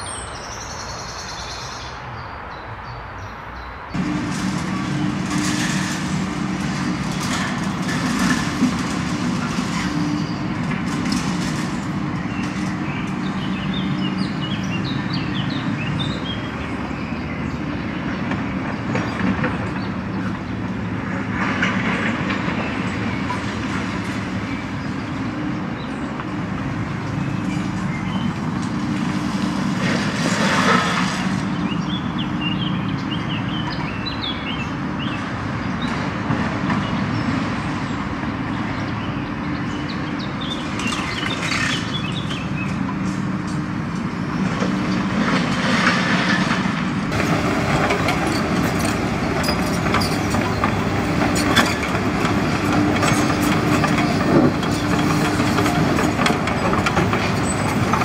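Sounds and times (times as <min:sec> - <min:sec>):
excavator engine and hydraulics: 0:03.9 - 0:58.0.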